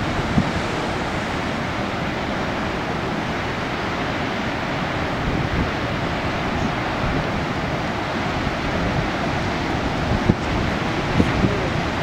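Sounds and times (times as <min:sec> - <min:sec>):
heavy ocean surf: 0:00.0 - 0:12.0
wind: 0:00.0 - 0:12.0
wind buffeting microphone: 0:00.0 - 0:12.0.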